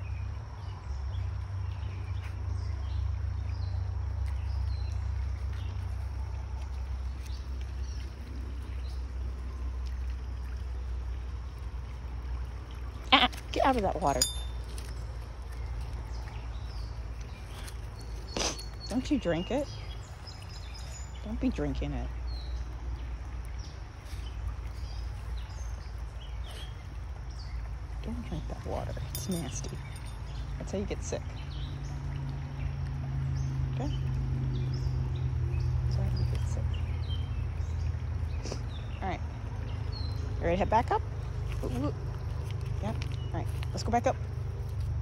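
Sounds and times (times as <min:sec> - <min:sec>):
creek water running: 0:00.0 - 0:45.0.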